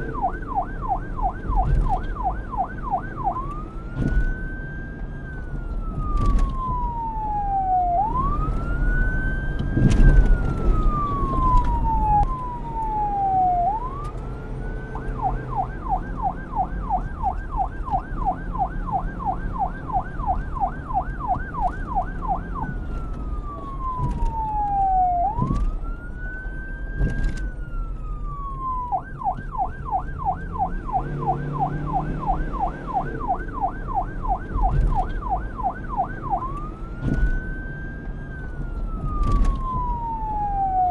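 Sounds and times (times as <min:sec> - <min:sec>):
police siren wailing and yelping: 0:00.0 - 0:40.9.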